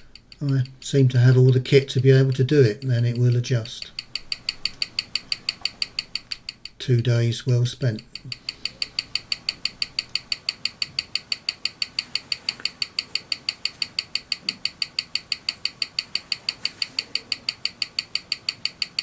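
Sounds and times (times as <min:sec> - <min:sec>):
watch movement ticking: 0:00.0 - 0:19.0.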